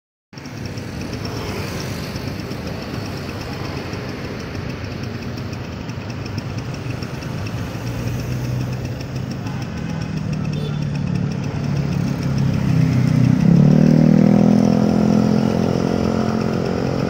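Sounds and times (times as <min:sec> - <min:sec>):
cars and scooters idling: 0:00.3 - 0:17.0
general traffic noise: 0:00.3 - 0:17.0
low engine drone: 0:00.4 - 0:17.0.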